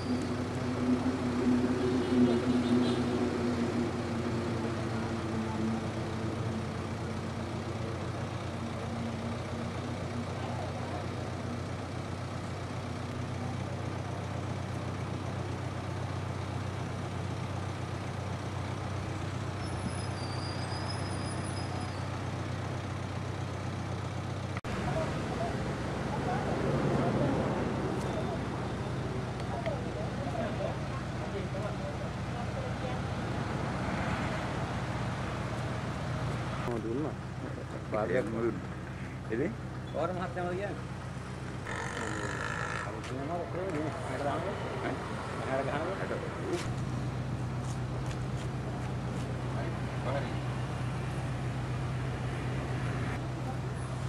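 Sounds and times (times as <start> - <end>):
minibus engine idling: 0.0 - 54.0.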